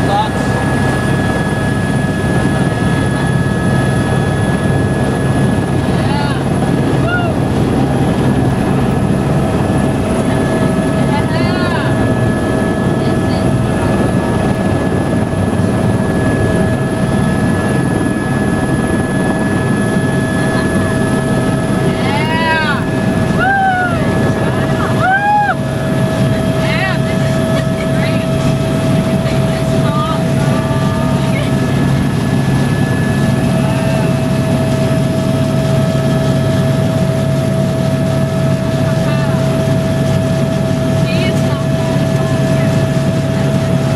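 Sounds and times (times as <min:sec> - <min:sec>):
helicopter engine and rotor roar: 0:00.0 - 0:43.9
turbine whine: 0:00.0 - 0:43.9.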